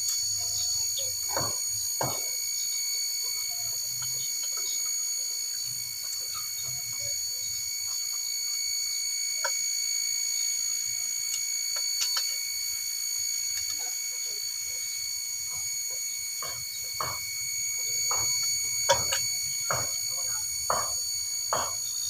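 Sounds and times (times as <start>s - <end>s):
steady high-pitched whine: 0.0s - 22.0s.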